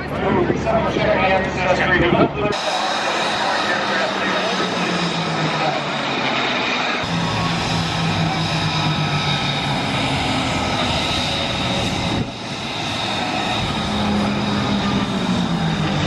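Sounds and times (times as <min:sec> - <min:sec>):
aircraft engine humming: 0:00.0 - 0:16.0.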